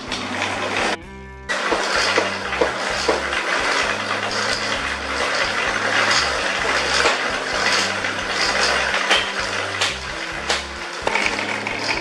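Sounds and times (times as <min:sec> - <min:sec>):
chain gearbox rattling whir: 0:00.2 - 0:12.0.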